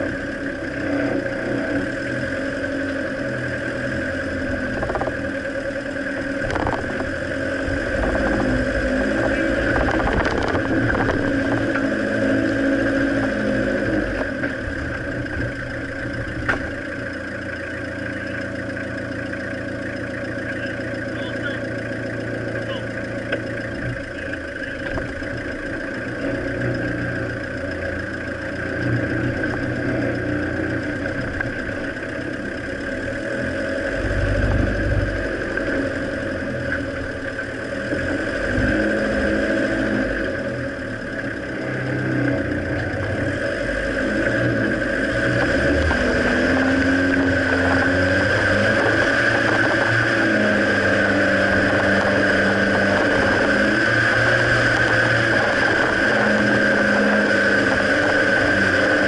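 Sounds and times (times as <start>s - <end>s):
off-road vehicle engine: 0.0s - 59.0s.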